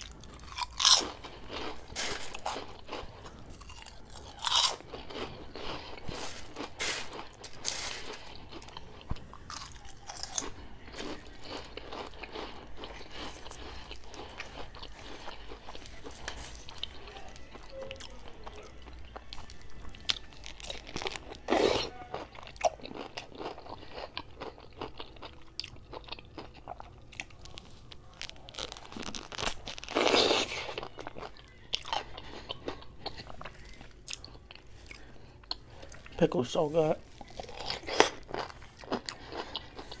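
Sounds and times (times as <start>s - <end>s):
crunchy pickle bites: 0.0s - 16.9s, 19.2s - 35.6s
wet chewing: 0.0s - 40.0s.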